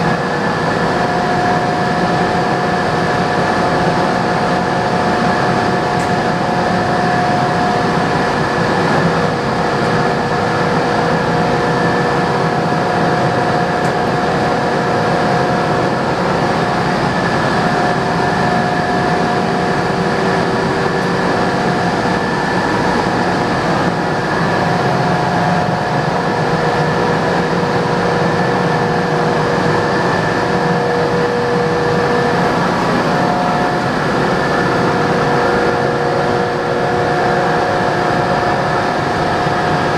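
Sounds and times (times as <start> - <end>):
lathe running with whining tones: 0.0 - 39.9.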